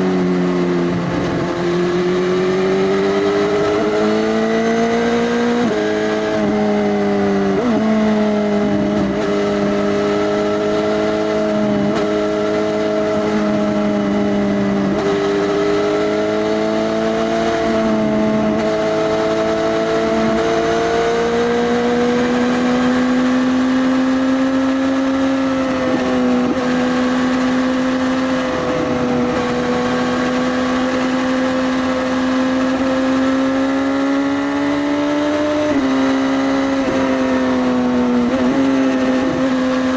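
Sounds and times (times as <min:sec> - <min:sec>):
motorcycle engine at riding speed: 0:00.0 - 0:39.9.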